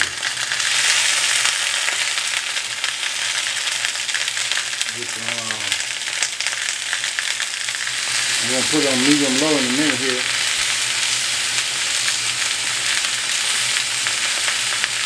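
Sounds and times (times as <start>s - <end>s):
sausages sizzling in a skillet: 0.0s - 15.0s.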